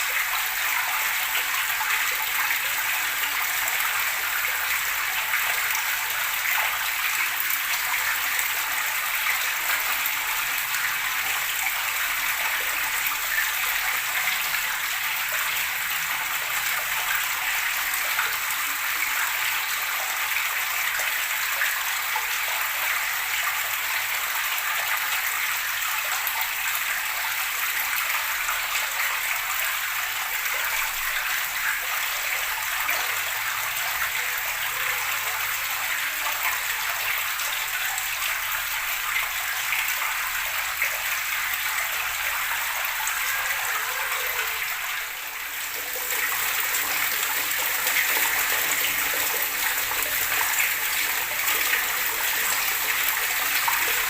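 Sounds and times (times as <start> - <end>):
running water splashing and gurgling: 0.0 - 54.0.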